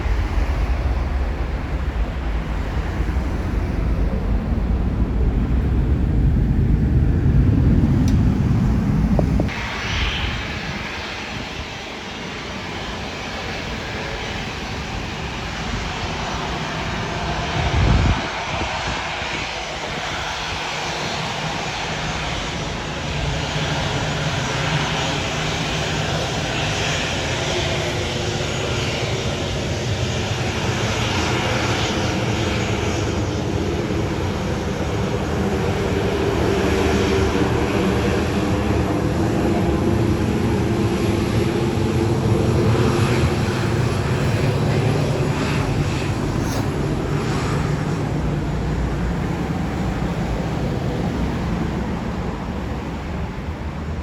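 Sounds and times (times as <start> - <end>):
aircraft engines running: 0.0 - 54.0.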